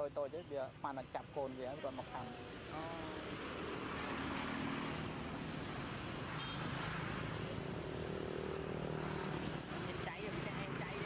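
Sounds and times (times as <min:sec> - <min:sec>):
road noise: 0:00.0 - 0:11.0
vehicle engine humming: 0:00.2 - 0:11.0.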